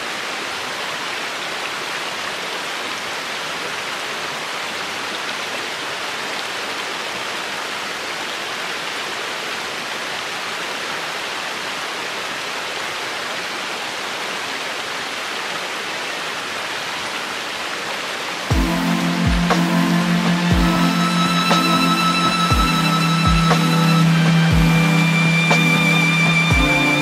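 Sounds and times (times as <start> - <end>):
stream running over rocks: 0.0 - 27.0.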